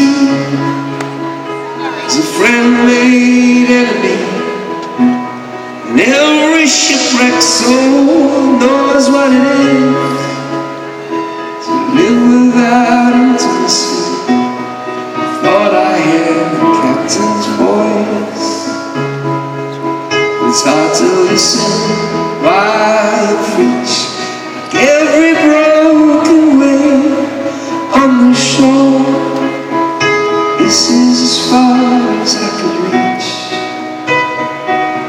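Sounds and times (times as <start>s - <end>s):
man singing: 0.0s - 1.0s, 1.9s - 5.2s, 5.8s - 10.9s, 11.5s - 34.4s
piano chords: 0.0s - 35.0s.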